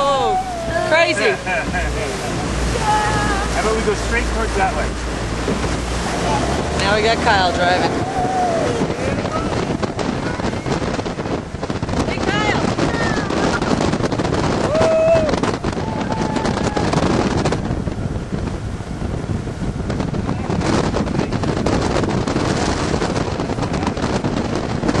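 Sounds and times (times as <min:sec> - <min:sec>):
boat engine: 0:00.0 - 0:25.0
hull running through water: 0:00.0 - 0:25.0
wind buffeting microphone: 0:00.0 - 0:25.0.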